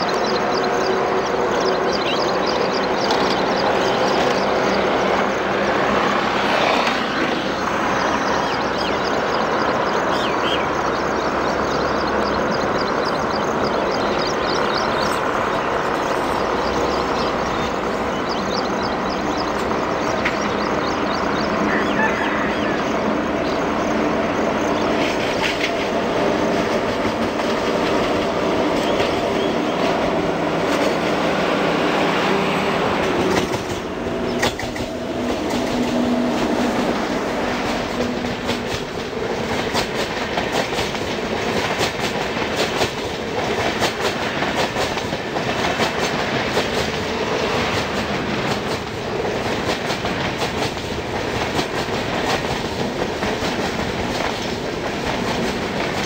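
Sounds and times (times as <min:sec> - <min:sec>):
electric train running: 0:00.0 - 0:56.0.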